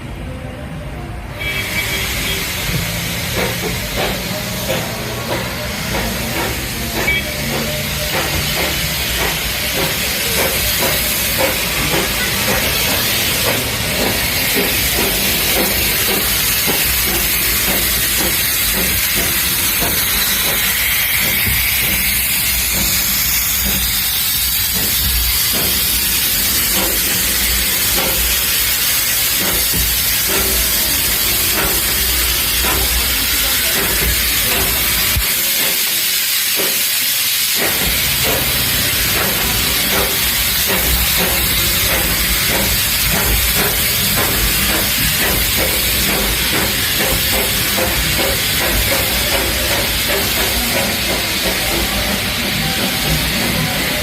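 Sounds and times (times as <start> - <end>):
steam locomotive hissing steam: 0.0 - 54.0.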